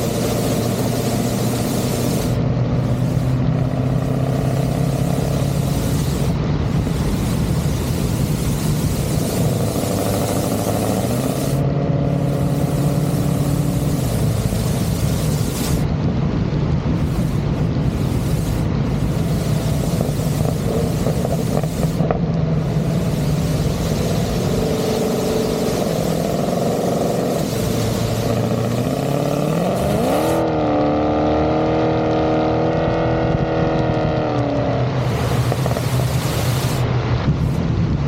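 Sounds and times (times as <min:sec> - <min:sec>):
car engine revving: 0:00.0 - 0:37.7.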